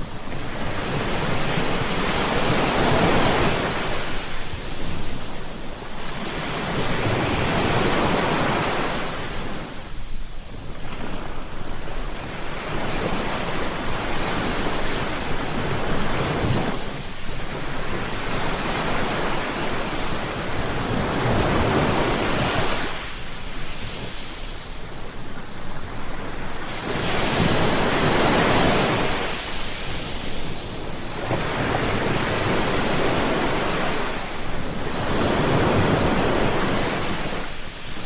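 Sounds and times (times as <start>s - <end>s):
ocean waves breaking: 0.0s - 38.0s.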